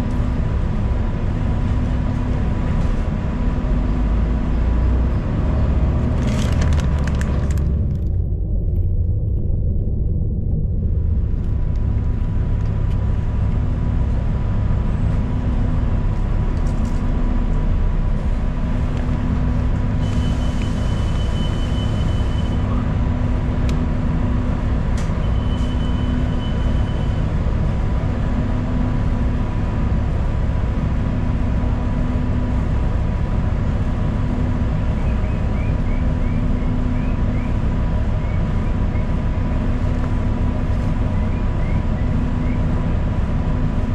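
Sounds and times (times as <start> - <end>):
bus engine and road rumble: 0.0 - 43.9
low hum: 0.0 - 43.9.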